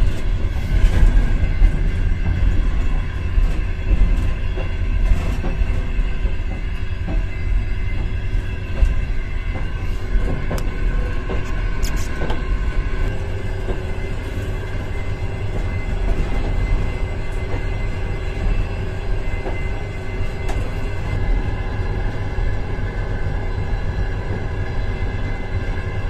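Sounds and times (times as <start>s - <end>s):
constant hum: 0.0s - 26.0s
train car rumble: 0.0s - 26.0s.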